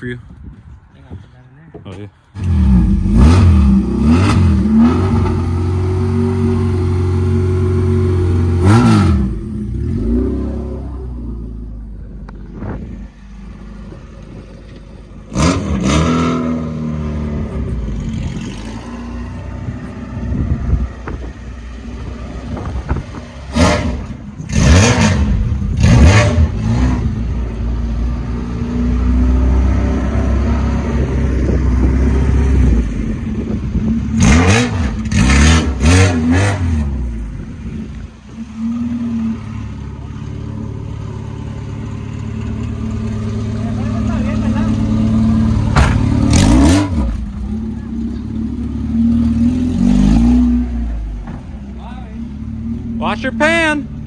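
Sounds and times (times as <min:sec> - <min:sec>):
car engine revving: 0:02.4 - 0:54.0.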